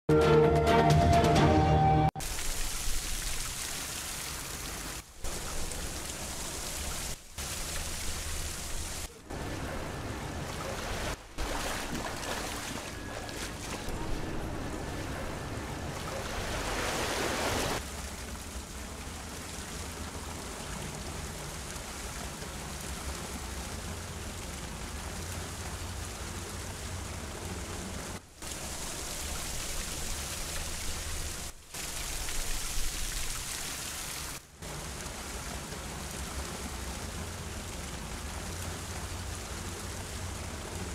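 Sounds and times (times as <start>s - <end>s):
rain and flowing water: 2.2s - 40.9s.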